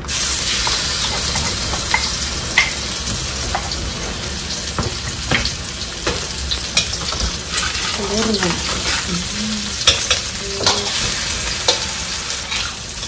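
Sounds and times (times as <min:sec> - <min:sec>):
oil sizzling in a wok: 0:00.0 - 0:13.0.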